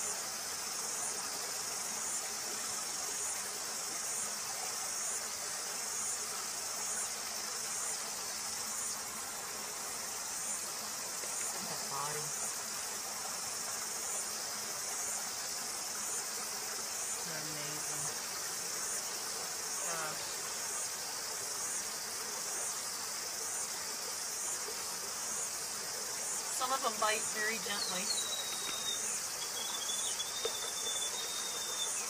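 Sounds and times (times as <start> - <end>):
insects shrilling: 4.0 - 32.0.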